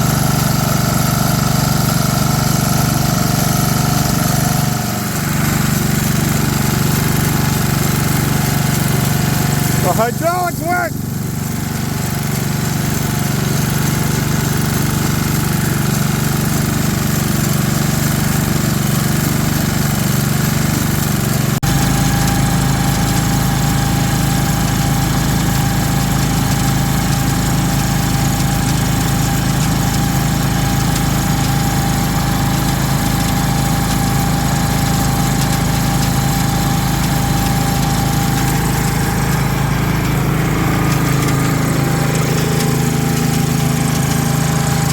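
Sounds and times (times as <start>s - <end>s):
small gasoline engine running: 0.0s - 44.9s.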